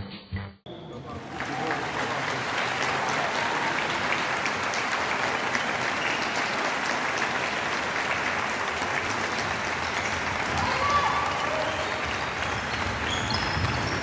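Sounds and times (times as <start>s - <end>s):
crowd applause: 0.8s - 14.0s.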